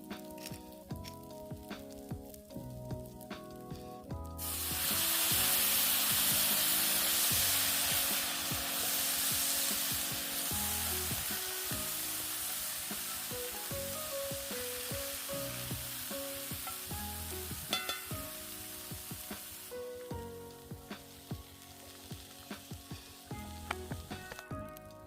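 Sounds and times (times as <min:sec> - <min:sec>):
food sizzling in a hot pan: 0:04.4 - 0:24.6.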